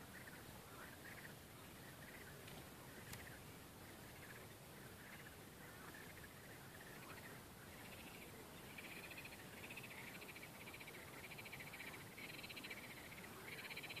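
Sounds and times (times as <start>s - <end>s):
frogs trilling: 0.0s - 14.0s.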